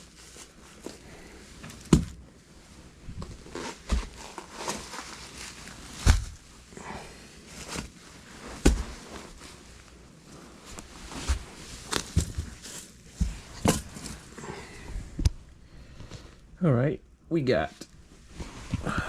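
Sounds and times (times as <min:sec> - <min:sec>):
clattering and rustling of handling: 0:00.0 - 0:16.4.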